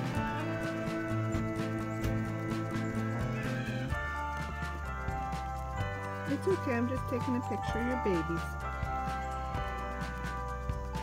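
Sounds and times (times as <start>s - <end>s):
music with long held notes: 0.0s - 11.0s.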